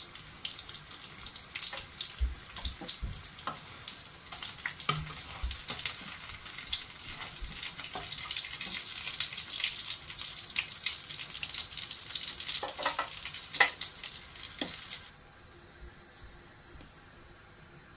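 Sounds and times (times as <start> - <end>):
food sizzling in hot oil: 0.0 - 15.1.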